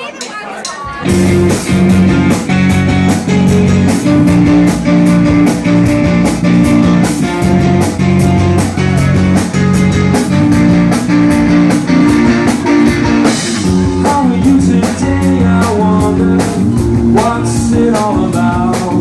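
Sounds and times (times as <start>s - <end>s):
drum kit beat: 0.0s - 19.0s
bass guitar: 1.0s - 19.0s
electric guitar: 1.0s - 19.0s.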